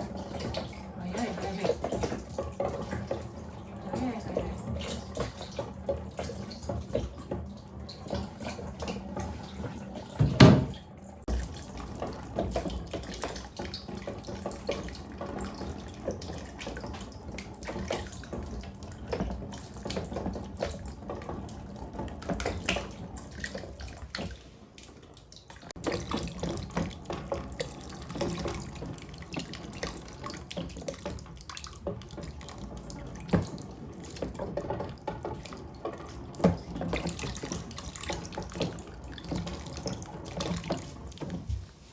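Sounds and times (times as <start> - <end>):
water running down wooden slide: 0.0 - 41.9.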